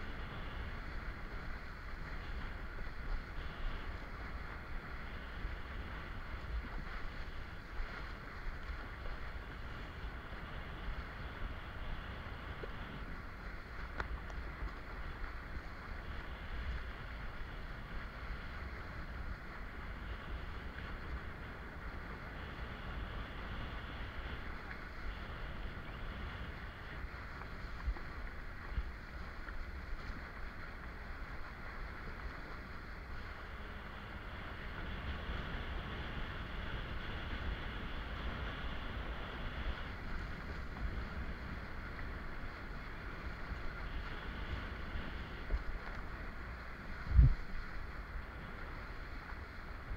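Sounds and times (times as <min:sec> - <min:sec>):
water rushing and splashing: 0:00.0 - 0:49.9
wind rumble on microphone: 0:00.0 - 0:49.9.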